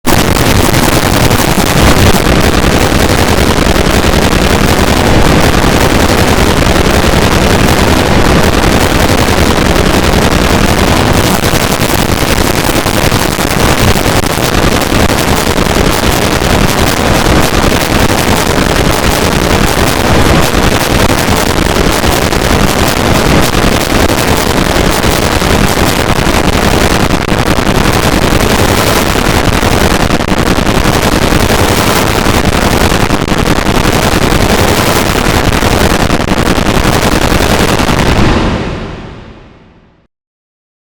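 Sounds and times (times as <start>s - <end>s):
harsh distorted alarm noise: 0.0s - 40.0s.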